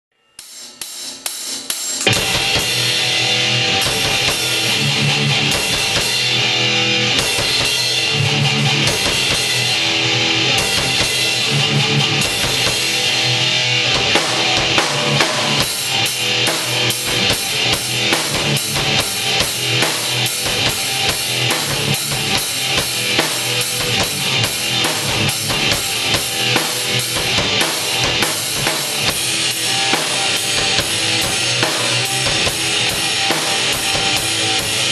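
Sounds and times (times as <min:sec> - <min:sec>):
drum kit: 0:00.4 - 0:34.9
live band playing: 0:00.5 - 0:34.9
electric guitar: 0:02.0 - 0:34.9.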